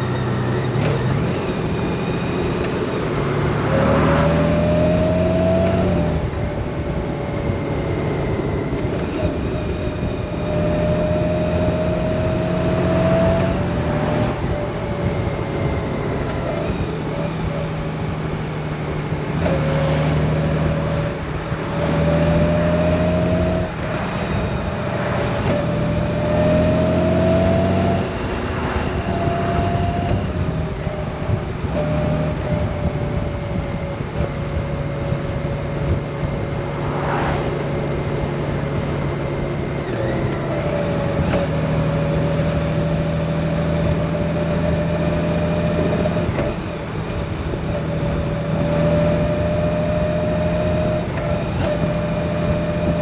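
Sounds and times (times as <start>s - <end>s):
motorcycle engine running: 0.0s - 53.0s
rising whine: 0.0s - 53.0s
wind noise: 0.0s - 53.0s.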